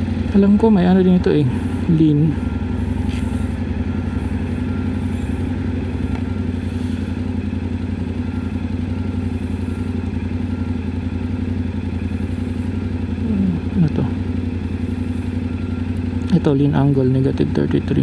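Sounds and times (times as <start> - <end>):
motorcycle engine running steadily: 0.0 - 18.0.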